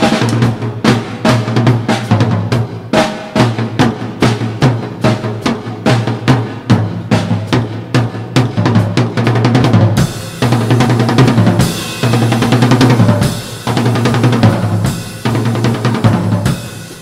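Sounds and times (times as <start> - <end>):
cymbals crashing: 0.0 - 8.4, 10.0 - 17.0
snare and bass drum hits: 0.0 - 17.0.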